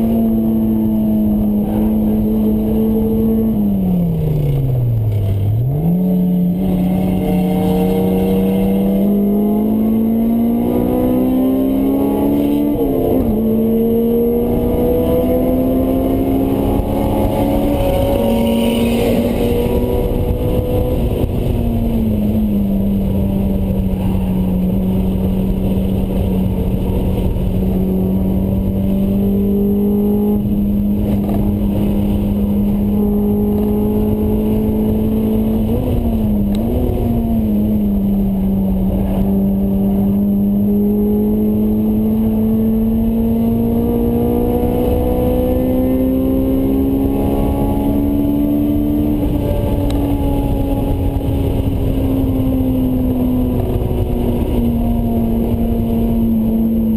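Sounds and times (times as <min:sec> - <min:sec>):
high-revving car engine: 0:00.0 - 0:56.9.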